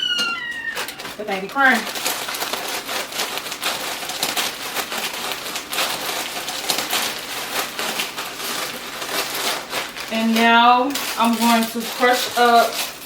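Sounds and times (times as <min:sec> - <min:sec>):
chips crunching in bag: 0:00.0 - 0:13.0.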